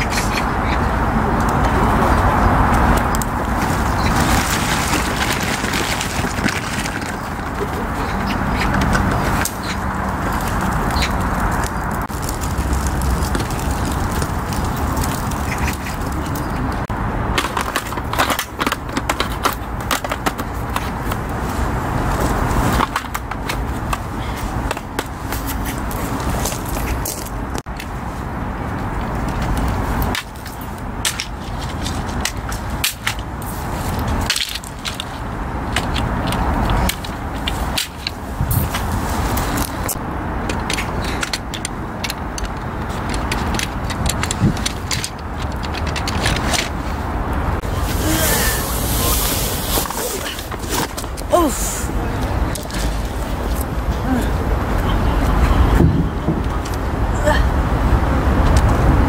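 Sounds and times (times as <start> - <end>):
highway traffic hum: 0.0 - 59.0.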